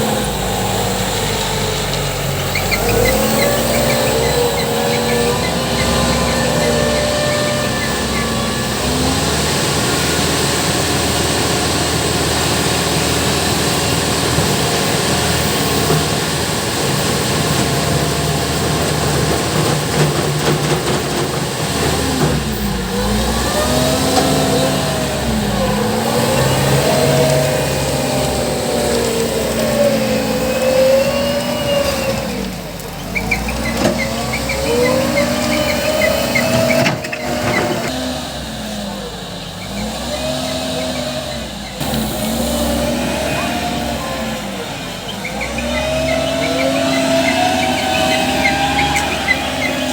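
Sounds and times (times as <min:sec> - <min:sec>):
construction machine engine revving: 0:00.0 - 0:49.9.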